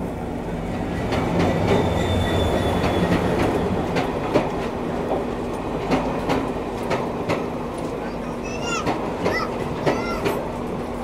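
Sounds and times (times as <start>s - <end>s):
train wheels clacking: 0.6s - 11.0s.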